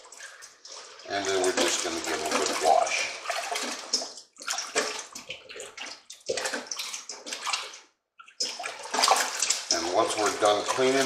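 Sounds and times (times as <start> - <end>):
water sloshing in metal bowl: 0.0 - 11.0.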